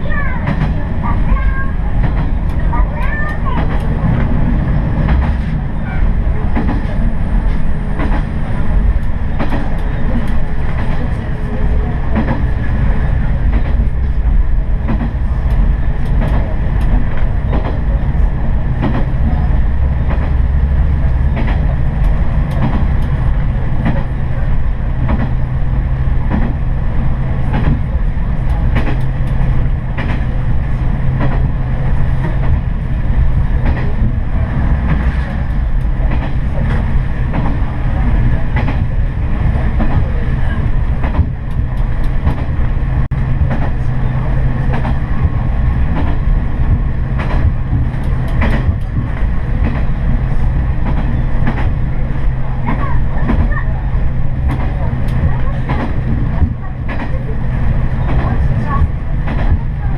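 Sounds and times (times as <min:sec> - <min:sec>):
railcar engine drone: 0:00.0 - 0:59.9.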